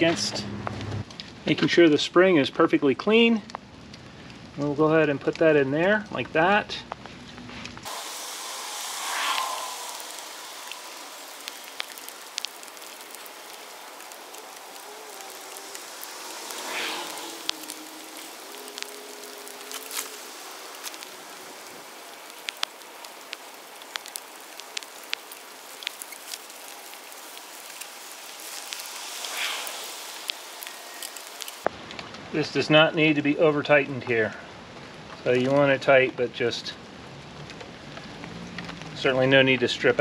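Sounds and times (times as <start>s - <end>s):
light rain pattering: 0.7s - 40.0s
sharp ticks of raindrops: 0.7s - 40.0s.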